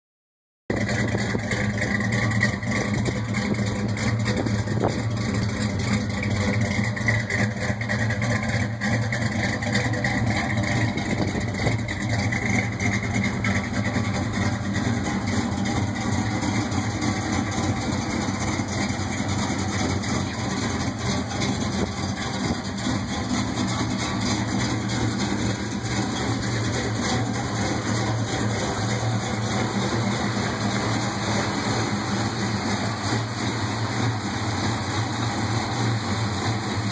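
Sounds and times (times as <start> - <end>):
car engine idling: 0.7 - 36.9.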